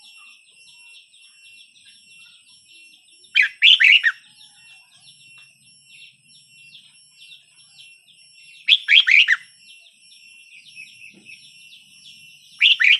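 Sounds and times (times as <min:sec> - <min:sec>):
bird singing whistled notes: 0:00.0 - 0:12.9
faint high twittering: 0:00.0 - 0:12.9.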